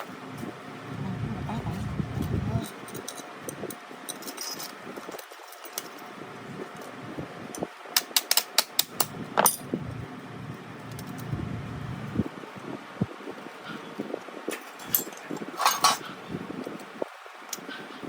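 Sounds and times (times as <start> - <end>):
low steady background noise: 0.0 - 18.0.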